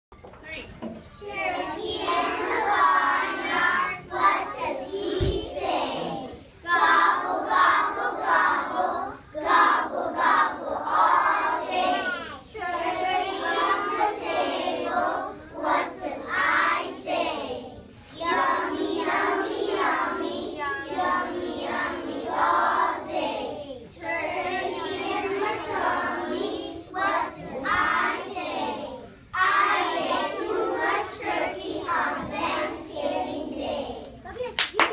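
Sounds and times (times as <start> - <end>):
young children singing: 1.1 - 34.4.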